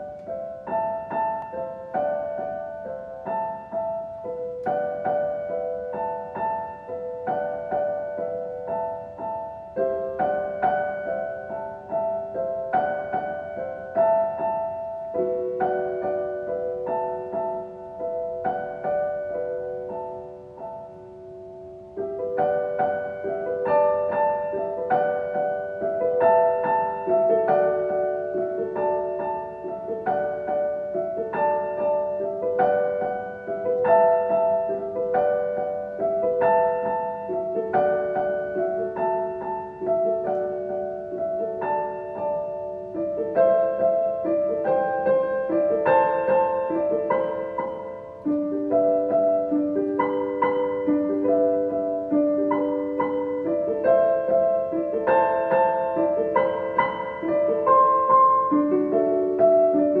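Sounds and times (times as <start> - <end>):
slow solo piano piece: 0.0 - 60.0.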